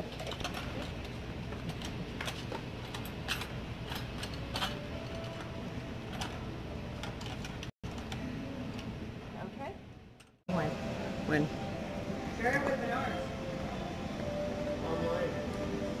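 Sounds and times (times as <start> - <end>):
store background hum: 0.0 - 16.0.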